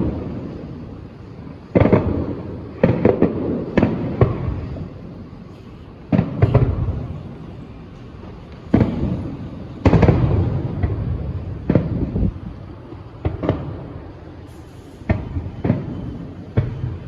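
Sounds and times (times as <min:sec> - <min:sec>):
fireworks bursting with echo: 0:00.0 - 0:17.0.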